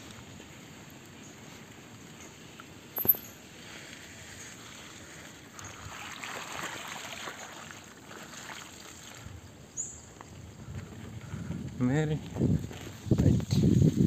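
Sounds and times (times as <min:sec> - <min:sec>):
bike tyres rolling on wet dirt: 0:00.0 - 0:14.0.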